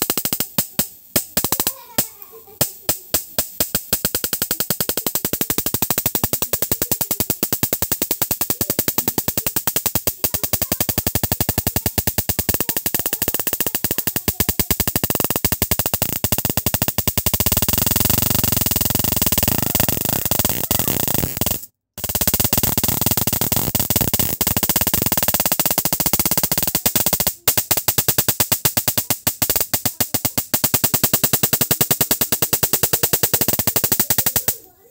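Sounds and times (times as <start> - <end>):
electric arcing crackling buzz: 0.0 - 34.8.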